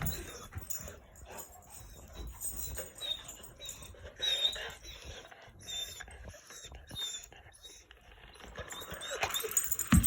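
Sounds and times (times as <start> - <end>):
dog whimpering: 0.0 - 0.9, 1.7 - 10.0.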